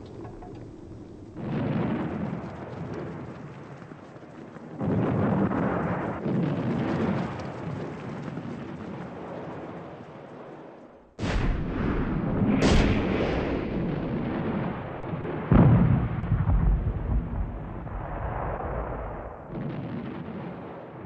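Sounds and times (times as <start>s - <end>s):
distant artillery booms: 0.0s - 21.0s.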